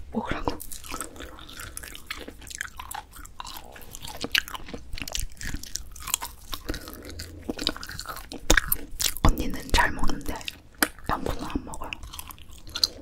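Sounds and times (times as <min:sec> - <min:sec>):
crisp chewing clicks: 0:00.6 - 0:13.0.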